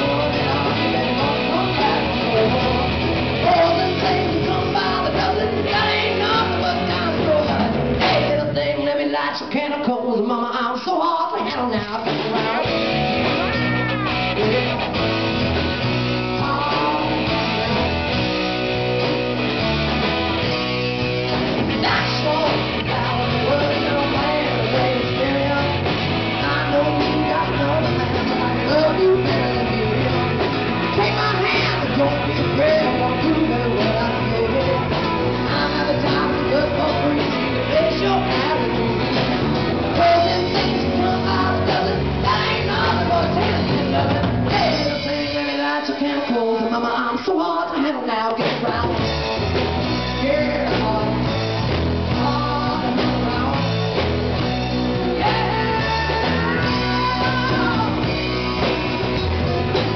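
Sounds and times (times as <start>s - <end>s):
drum kit: 0.0s - 9.6s, 11.4s - 47.0s, 47.7s - 59.9s
electric guitars: 0.0s - 10.5s, 11.2s - 59.9s
woman singing: 0.0s - 15.0s, 16.1s - 18.0s, 21.7s - 49.2s, 50.0s - 54.0s, 55.1s - 59.9s
bass guitar: 0.0s - 59.9s.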